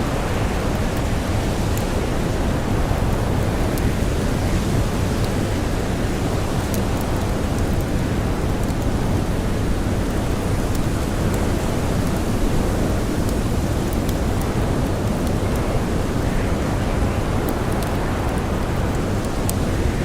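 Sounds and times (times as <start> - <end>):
campfire crackling: 0.0 - 20.0
storm wind and blowing snow: 0.0 - 20.0.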